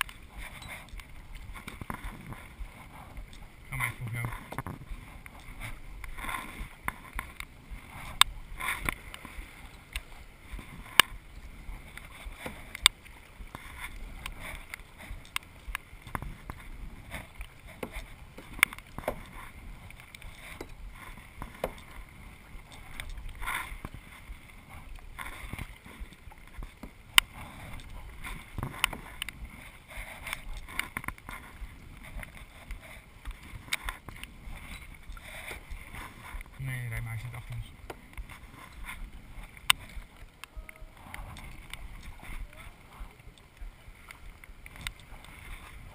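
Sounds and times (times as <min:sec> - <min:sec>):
paddle splashing through water: 0:00.0 - 0:45.9.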